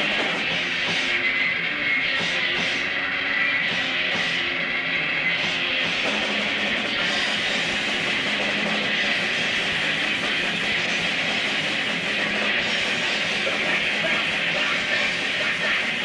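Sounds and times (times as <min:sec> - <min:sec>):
metal band playing live: 0:00.0 - 0:16.0.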